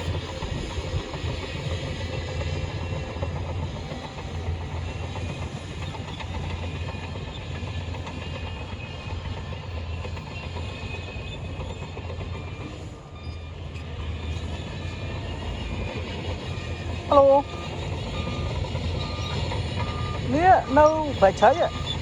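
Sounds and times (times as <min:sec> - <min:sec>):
bulldozer diesel engine running: 0:00.0 - 0:22.0
steel tracks clanking: 0:00.0 - 0:22.0.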